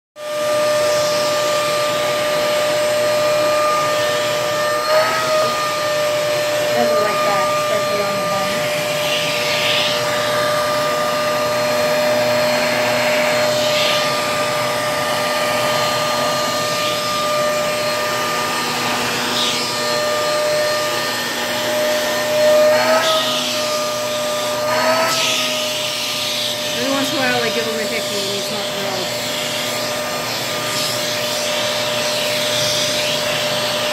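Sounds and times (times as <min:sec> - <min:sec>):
vacuum cleaner running: 0:00.2 - 0:33.9.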